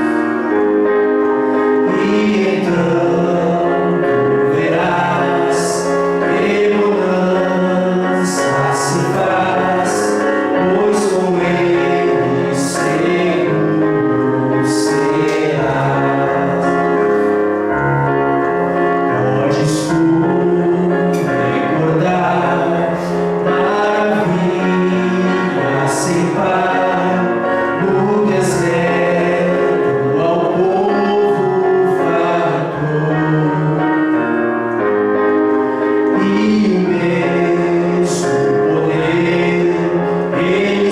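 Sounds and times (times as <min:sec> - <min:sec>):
instrumental accompaniment: 0:00.0 - 0:40.9
voices singing a hymn: 0:00.0 - 0:40.9.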